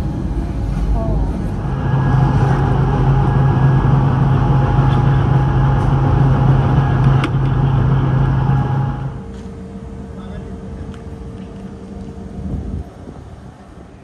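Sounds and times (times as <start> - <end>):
railcar motor hum and whine: 0.0 - 14.0
train running rumble: 0.0 - 14.0.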